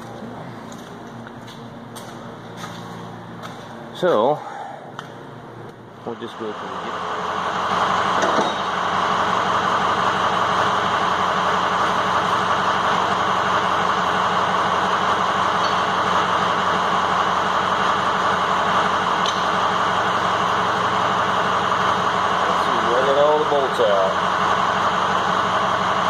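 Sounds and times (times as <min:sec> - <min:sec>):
machine drone: 0:00.0 - 0:26.0.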